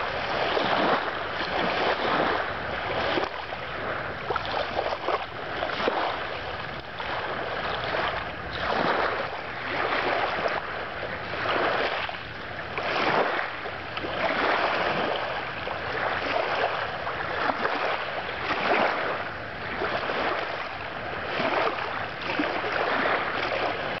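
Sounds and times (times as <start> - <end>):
small waves on pebble shore: 0.0 - 24.0.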